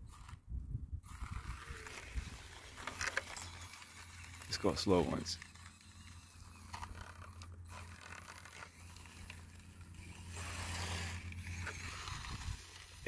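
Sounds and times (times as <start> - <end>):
small motor hum: 0.0 - 0.4, 1.0 - 13.0
tires scraping over ground: 1.0 - 13.0.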